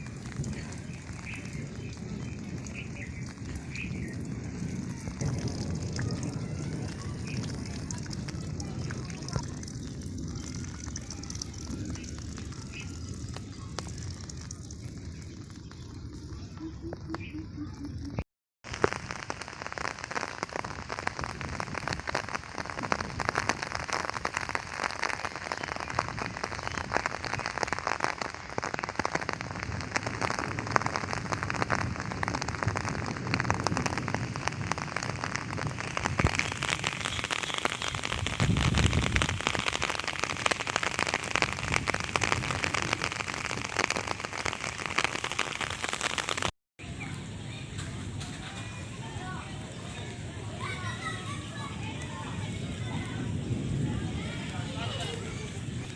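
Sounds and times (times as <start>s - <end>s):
rain spattering: 0.0s - 46.6s, 47.4s - 55.9s.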